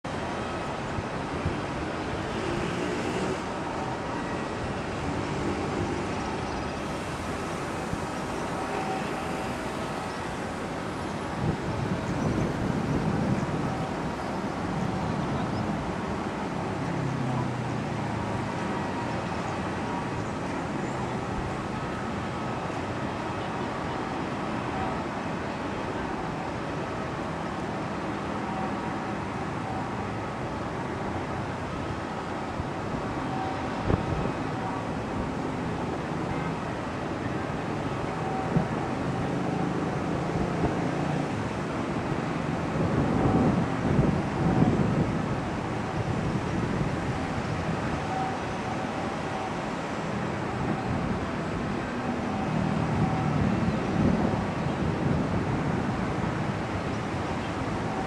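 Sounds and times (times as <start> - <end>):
outdoor traffic and engine noise: 0.0 - 58.0.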